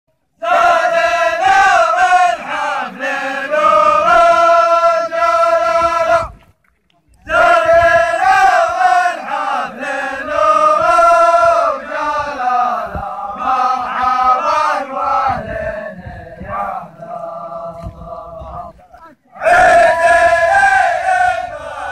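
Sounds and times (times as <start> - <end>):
men chanting in unison: 0.4 - 6.3, 7.3 - 21.9.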